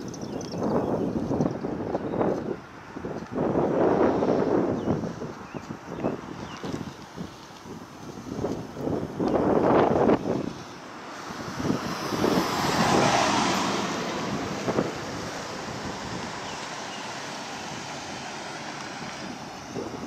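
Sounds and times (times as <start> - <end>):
vehicle driving on street: 0.0 - 20.0
wind buffeting microphone: 0.0 - 20.0.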